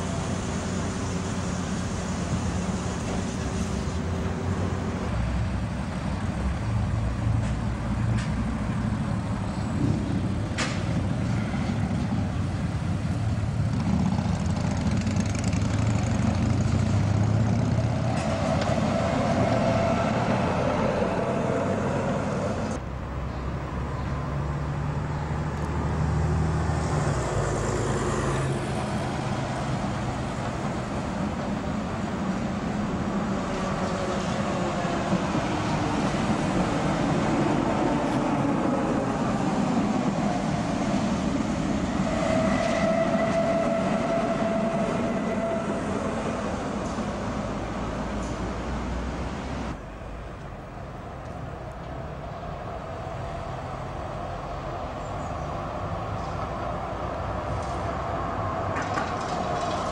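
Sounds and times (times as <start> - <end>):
trams and vehicles passing: 0.0 - 59.9.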